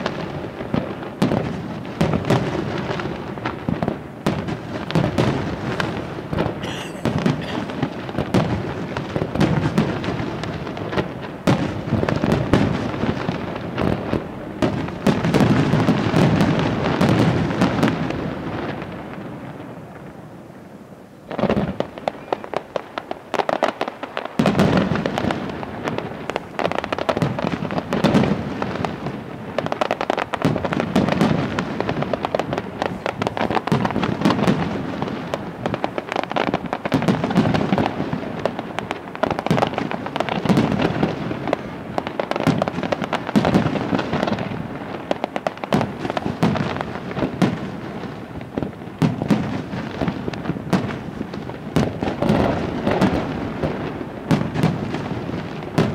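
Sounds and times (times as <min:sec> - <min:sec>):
fireworks bursting and popping: 0:00.0 - 0:20.1, 0:21.3 - 0:55.9.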